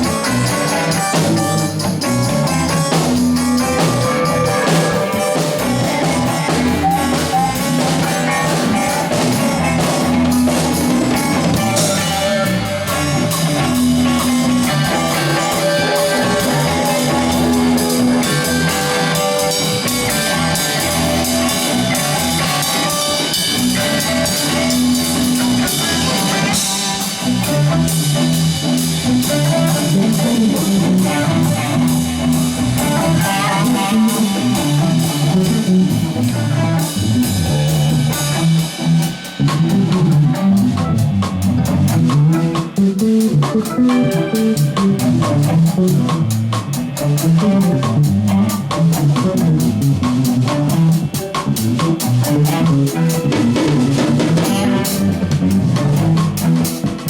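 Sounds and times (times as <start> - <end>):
bass guitar: 0.0 - 57.0
drum kit: 0.0 - 57.0
guitar: 0.0 - 57.0.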